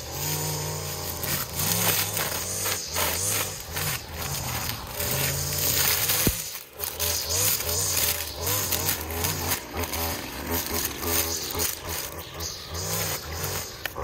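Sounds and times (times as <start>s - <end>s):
string trimmer revving: 0.0s - 14.0s.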